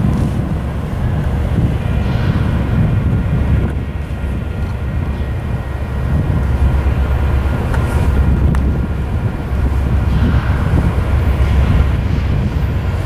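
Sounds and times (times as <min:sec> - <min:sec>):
diesel locomotive engines rumbling: 0:00.0 - 0:13.0.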